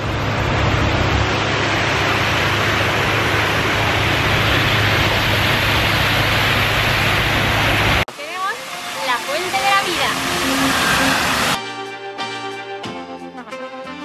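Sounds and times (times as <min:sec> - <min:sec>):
fountain water spraying: 0:00.0 - 0:11.6.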